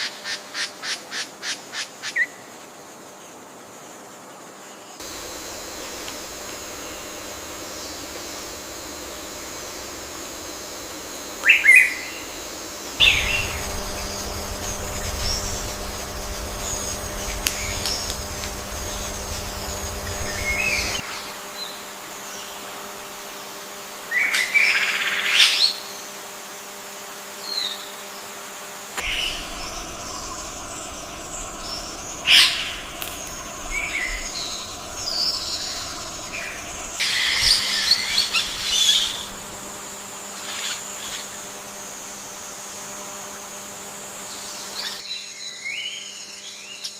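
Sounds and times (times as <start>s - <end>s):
steady background hum: 4.8s - 45.0s.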